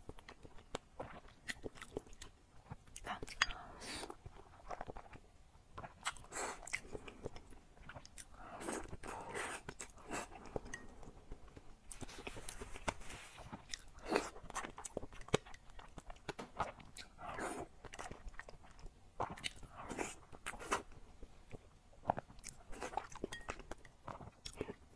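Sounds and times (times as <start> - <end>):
person chewing: 0.1 - 24.9.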